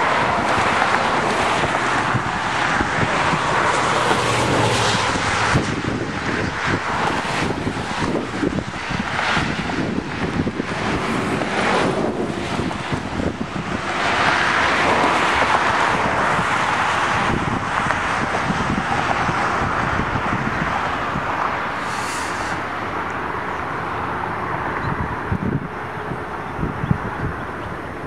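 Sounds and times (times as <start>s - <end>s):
freight train rumbling: 0.0s - 28.0s
wind buffeting microphone: 0.0s - 28.0s.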